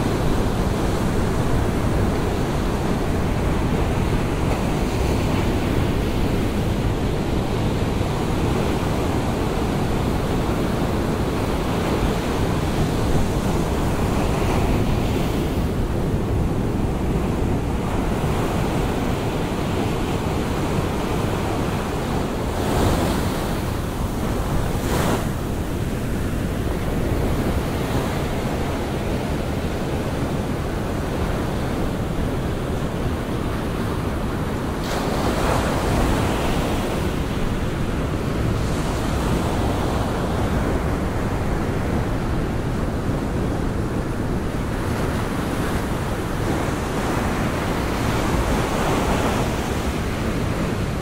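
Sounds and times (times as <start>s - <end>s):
ocean surf breaking on beach: 0.0s - 51.0s.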